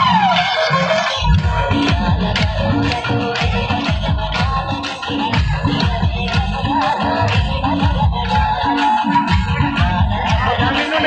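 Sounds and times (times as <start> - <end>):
loud music with heavy drum beat: 0.0 - 11.0.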